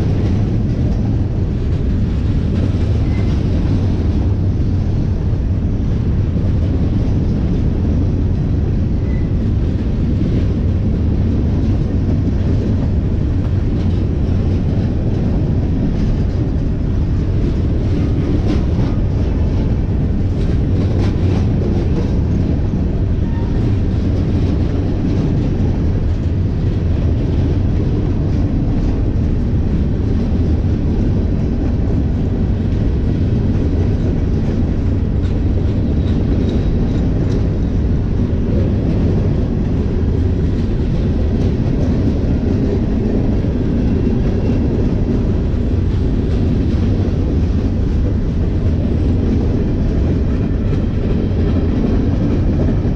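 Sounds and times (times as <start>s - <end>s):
train rumbling past: 0.0s - 52.9s.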